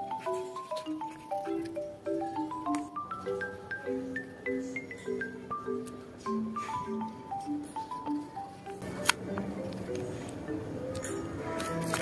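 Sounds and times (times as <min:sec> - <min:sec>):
light melodic background music: 0:00.0 - 0:12.0.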